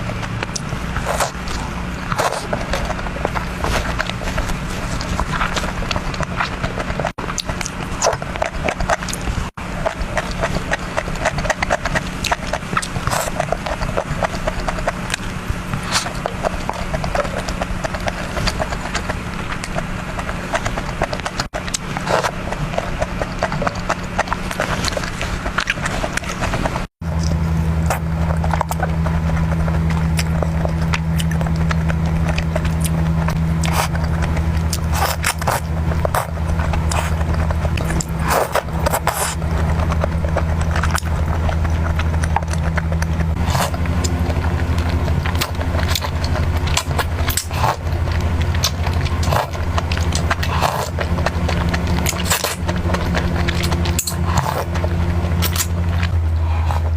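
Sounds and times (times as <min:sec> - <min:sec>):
chewing and crunching: 0:00.0 - 0:56.9
steady low hum: 0:00.0 - 0:56.9.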